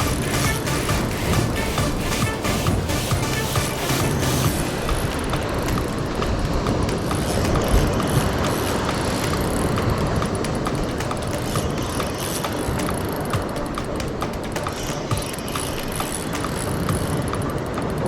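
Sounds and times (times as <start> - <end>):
spinning reel ticking: 0.0 - 18.0
surf: 0.0 - 18.0
wind: 0.0 - 18.0.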